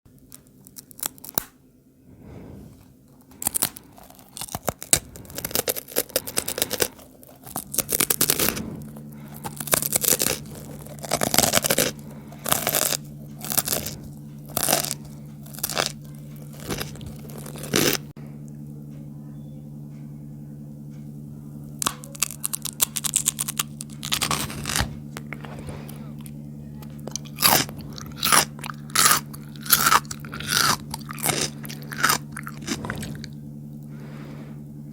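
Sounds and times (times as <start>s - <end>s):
crunching and chewing snacks: 0.1s - 1.6s, 3.2s - 18.6s, 21.7s - 34.4s
low hum: 0.1s - 34.9s.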